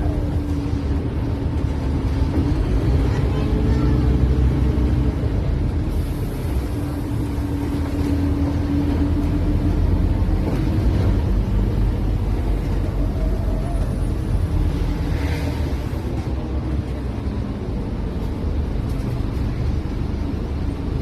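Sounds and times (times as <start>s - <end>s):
bus engine and road rumble: 0.0s - 21.0s
bus whine: 0.0s - 21.0s.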